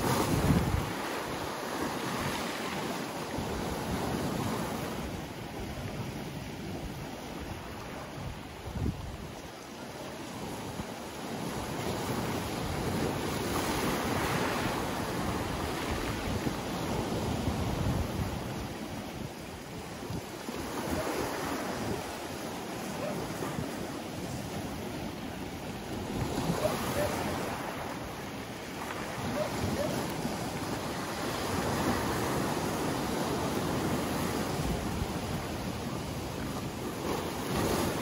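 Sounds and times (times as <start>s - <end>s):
surf washing over pebbles: 0.0s - 38.0s.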